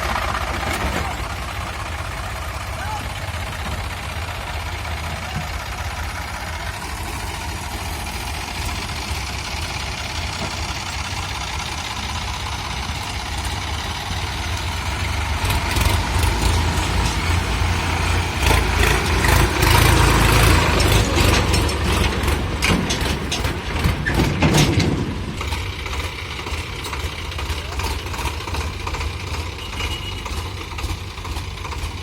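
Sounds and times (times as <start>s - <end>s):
diesel engine running: 0.0s - 32.0s
metallic rattles and clanks: 4.8s - 32.0s.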